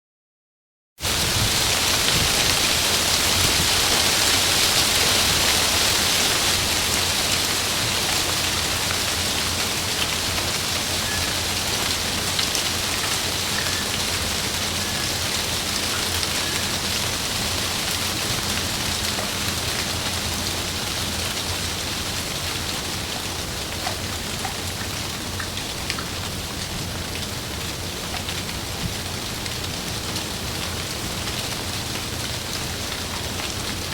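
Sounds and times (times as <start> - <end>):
heavy rain on leaves: 1.0 - 33.9
wind: 1.0 - 33.9.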